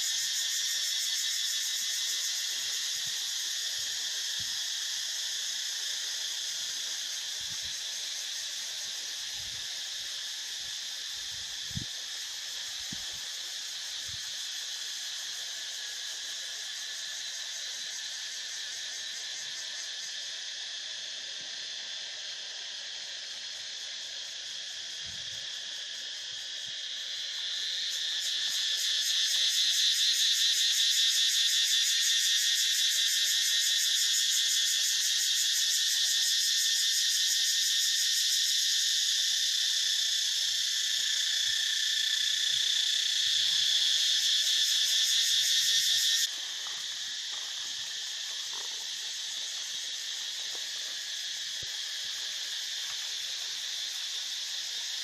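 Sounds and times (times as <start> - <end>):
pulsing insect chorus: 0.0 - 55.0.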